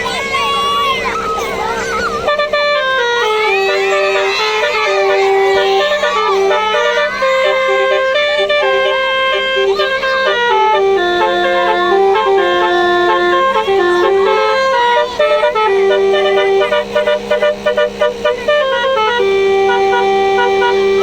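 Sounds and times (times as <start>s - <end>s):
bus horn playing a tune: 0.0s - 21.0s
steady low hum: 0.0s - 21.0s.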